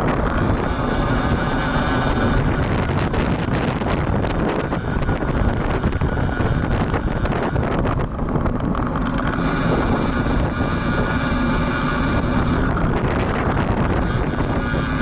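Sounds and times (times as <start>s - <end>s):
steady multi-pitched hum: 0.0s - 15.0s
wind buffeting microphone: 0.0s - 15.0s.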